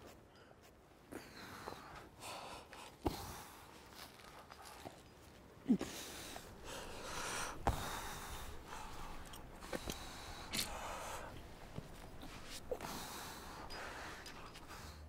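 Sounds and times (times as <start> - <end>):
man breathing hard: 1.1 - 4.2, 5.7 - 15.0.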